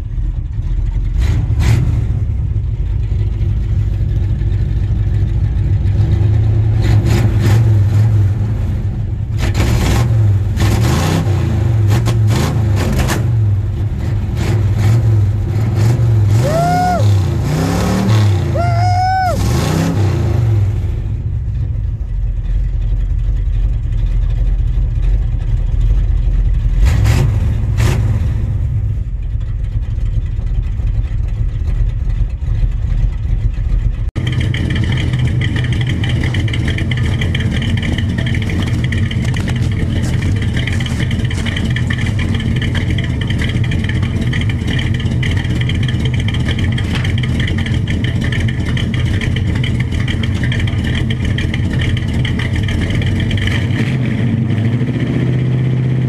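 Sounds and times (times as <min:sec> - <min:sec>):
engine revving and idling: 0:00.0 - 0:56.0.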